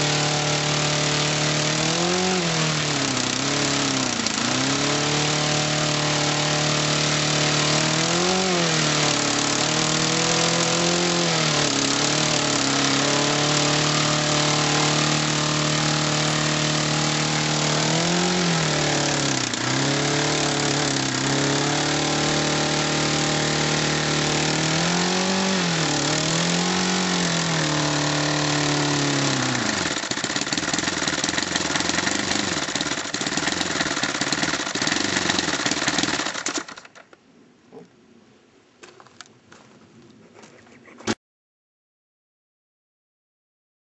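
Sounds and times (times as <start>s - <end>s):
model engine running: 0.0s - 37.0s.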